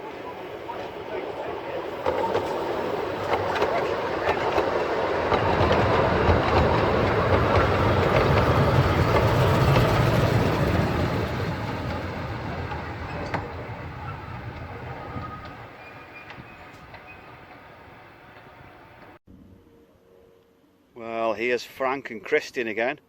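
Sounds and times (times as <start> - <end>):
steam train wheels clattering on rails: 0.6 - 19.2.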